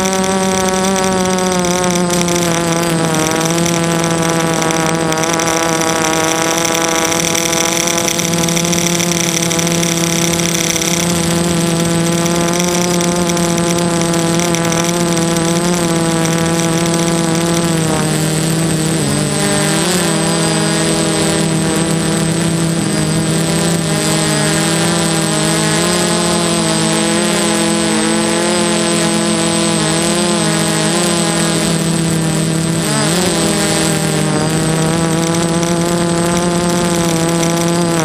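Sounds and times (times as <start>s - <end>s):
drone propellers buzzing: 0.0s - 38.0s.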